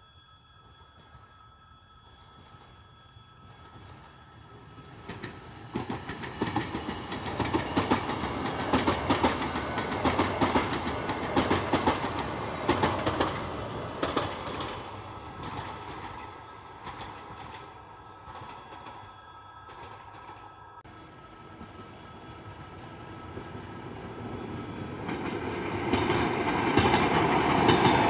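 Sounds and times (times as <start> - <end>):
train wheels clicking on rails: 2.0 - 20.8, 21.4 - 28.0.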